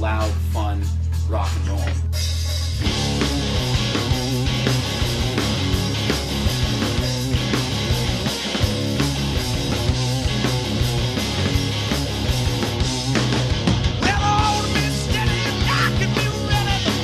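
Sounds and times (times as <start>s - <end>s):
drums driving beat: 0.0s - 17.0s
electric guitar: 2.5s - 17.0s.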